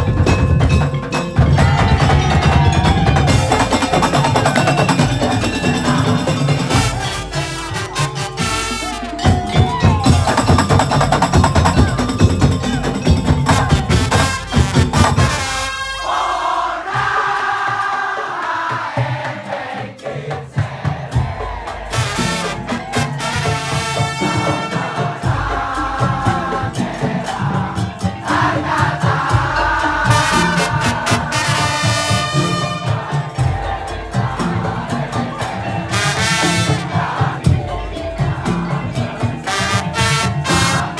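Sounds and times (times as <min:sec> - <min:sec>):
wooden slit drums beating: 0:00.0 - 0:40.9.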